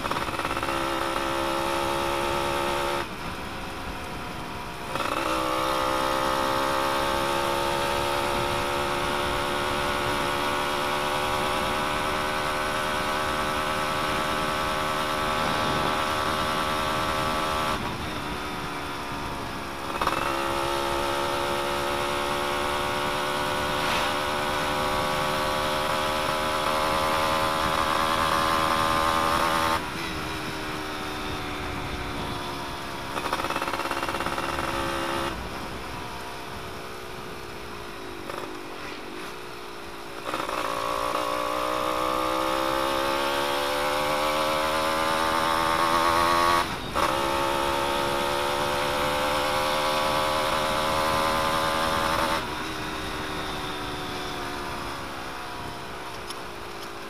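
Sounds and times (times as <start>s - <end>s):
two-stroke motorcycle engine running: 0.0s - 57.0s.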